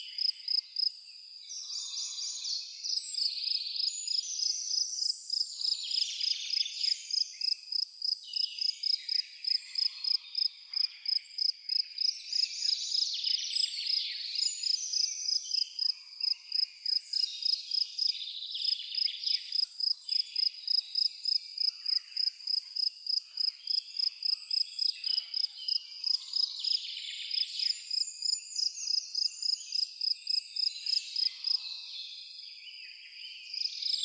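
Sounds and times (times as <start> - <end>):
birds singing and warbling: 0.0 - 7.6, 8.2 - 34.0.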